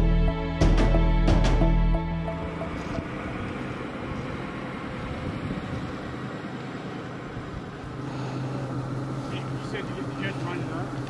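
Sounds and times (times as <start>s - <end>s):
engine roar: 0.0s - 11.0s.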